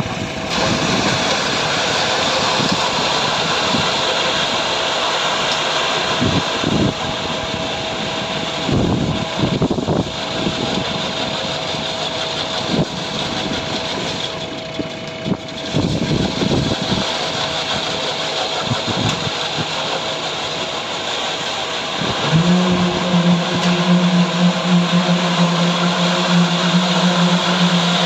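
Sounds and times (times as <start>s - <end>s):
concrete vibrator humming: 0.0s - 28.0s.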